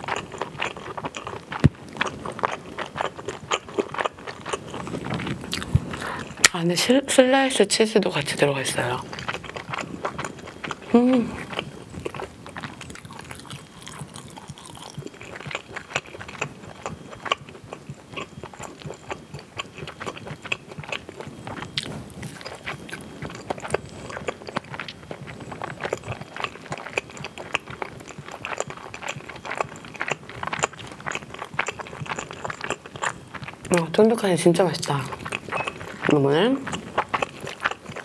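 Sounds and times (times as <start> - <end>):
close-miked chewing: 0.0 - 38.0.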